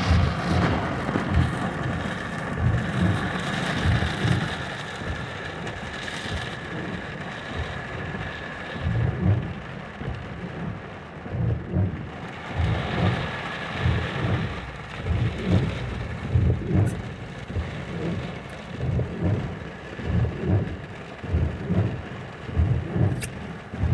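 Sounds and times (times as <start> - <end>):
low rumbling thumps: 0.0 - 7.0, 8.8 - 23.9
rain falling: 0.0 - 23.9.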